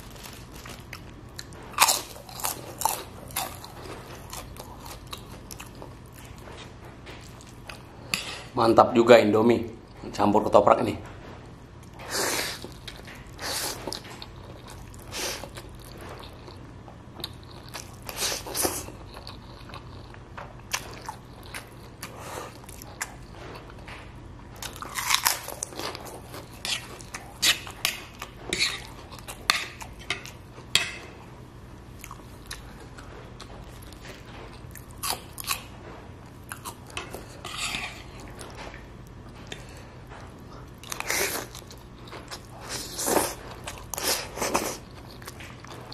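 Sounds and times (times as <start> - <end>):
chewing and crunching noodles: 0.0 - 7.9, 11.9 - 23.8, 24.6 - 30.7, 32.0 - 38.6, 39.2 - 45.9.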